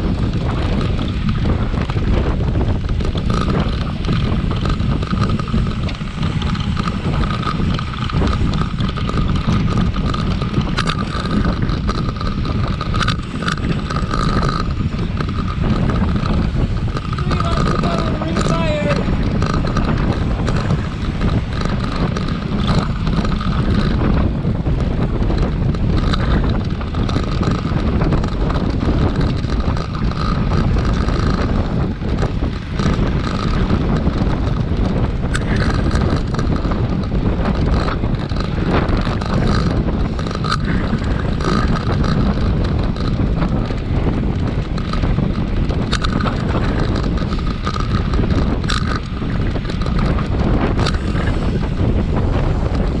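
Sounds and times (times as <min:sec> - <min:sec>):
bicycle rumble: 0:00.0 - 0:53.0
wind noise on microphone: 0:00.0 - 0:53.0.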